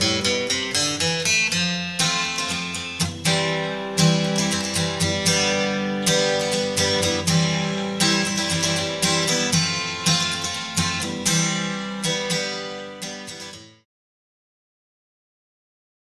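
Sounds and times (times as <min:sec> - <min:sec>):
acoustic guitar music: 0:00.0 - 0:13.9.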